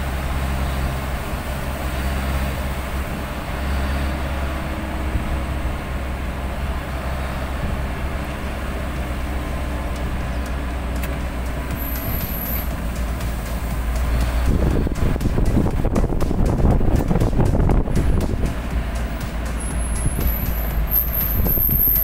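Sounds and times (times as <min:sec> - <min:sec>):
tyre noise on wet road: 0:00.0 - 0:22.0
vehicle engine and road rumble: 0:00.0 - 0:22.0.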